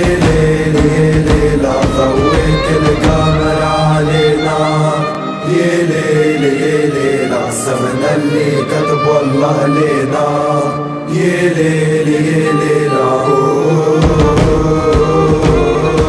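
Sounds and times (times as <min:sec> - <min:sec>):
backing track: 0:00.0 - 0:16.0
voices singing a chant: 0:00.0 - 0:16.0.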